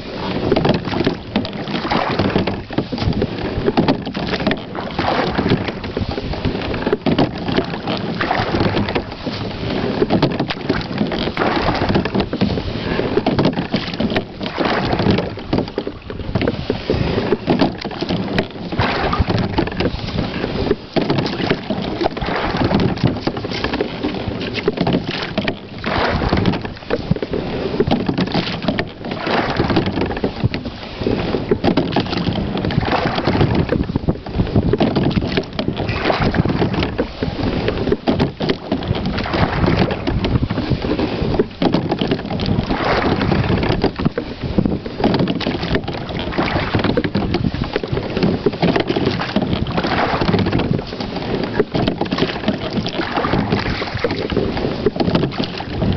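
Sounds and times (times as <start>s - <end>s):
oars splashing in water: 0.0s - 55.9s
water rushing along hull: 0.0s - 55.9s
wind on microphone: 0.0s - 55.9s.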